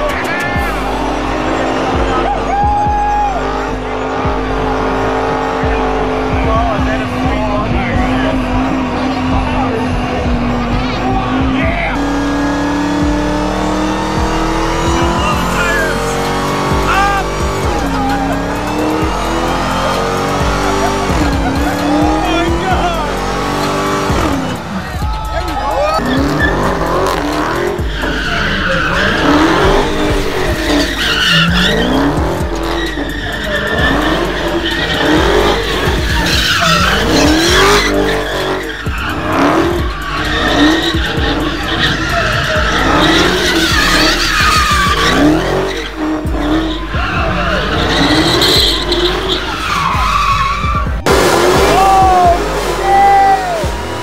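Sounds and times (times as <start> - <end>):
car burnout: 0.0 - 54.0
car engine revving: 0.0 - 54.0
tyres squealing and skidding: 0.0 - 54.0.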